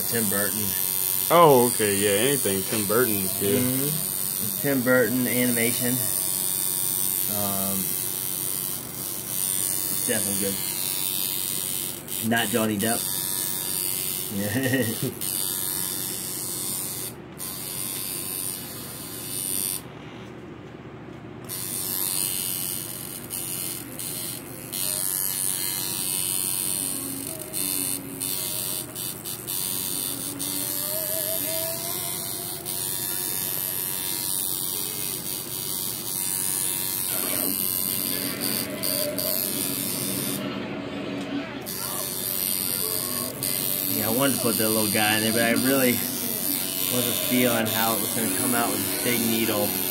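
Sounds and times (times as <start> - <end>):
tattoo machine buzzing: 0.0 - 19.9, 21.4 - 40.6, 41.3 - 49.9.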